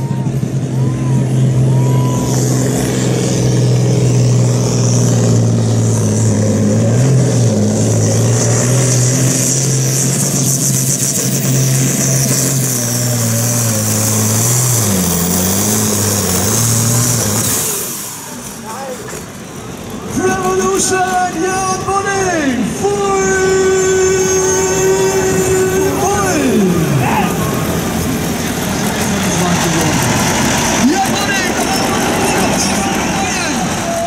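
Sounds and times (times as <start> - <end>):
tractor engine running hard: 0.0 - 34.0.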